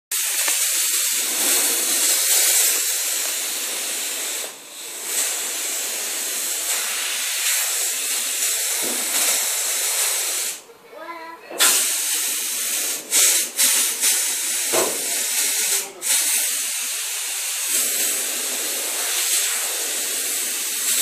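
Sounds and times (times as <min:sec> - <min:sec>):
compressed air hissing: 0:00.1 - 0:10.7, 0:11.6 - 0:21.0.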